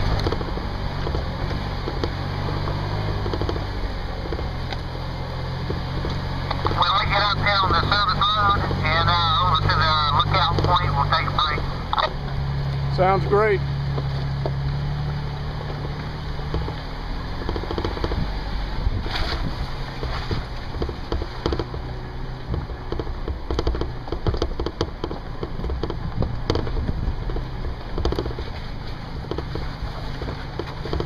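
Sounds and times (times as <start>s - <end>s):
tyres crunching over rocks: 0.0s - 31.0s
vehicle engine running low: 0.0s - 31.0s.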